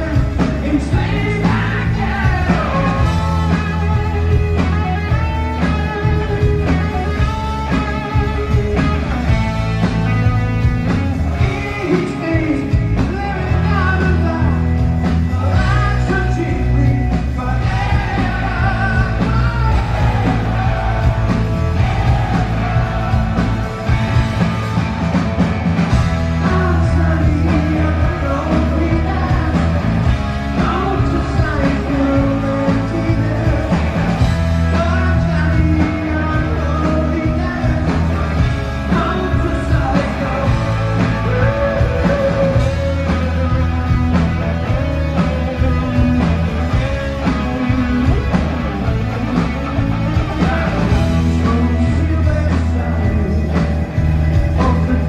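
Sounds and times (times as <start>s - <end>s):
male lead vocal: 0.0s - 9.2s, 11.1s - 24.7s, 26.0s - 55.0s
rock band playing live: 0.0s - 55.0s.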